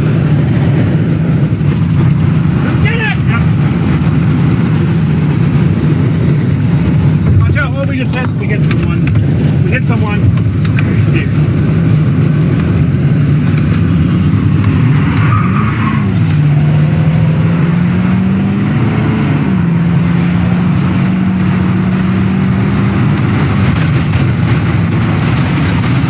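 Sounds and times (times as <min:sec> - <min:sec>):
loud rumble of tornado wind: 0:00.0 - 0:26.0
vehicle engine running: 0:00.0 - 0:26.0.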